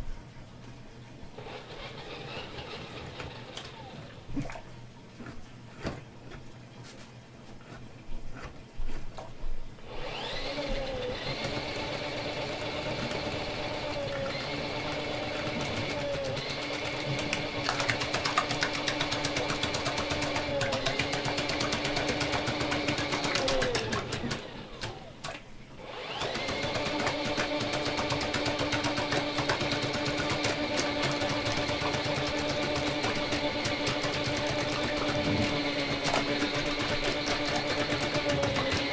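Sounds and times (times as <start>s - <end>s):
drain cleaning machine motor: 1.2s - 4.3s, 9.8s - 38.9s.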